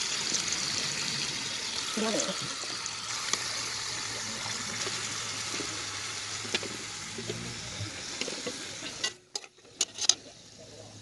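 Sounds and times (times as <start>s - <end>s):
chicken sizzling in hot oil: 0.0s - 10.2s.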